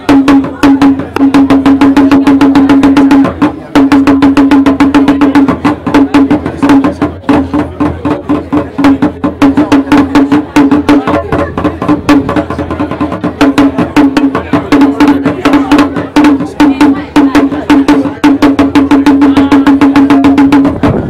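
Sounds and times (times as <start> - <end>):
talking drum beaten rapidly: 0.0 - 21.0.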